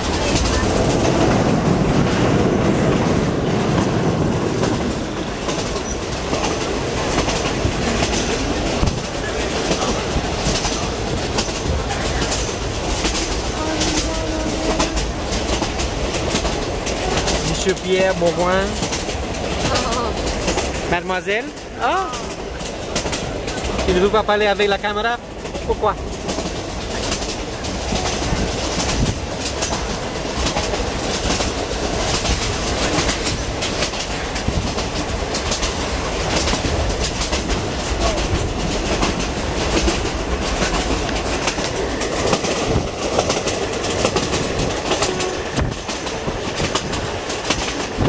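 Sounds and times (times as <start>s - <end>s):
train wheels clacking on rails: 0.0s - 48.0s.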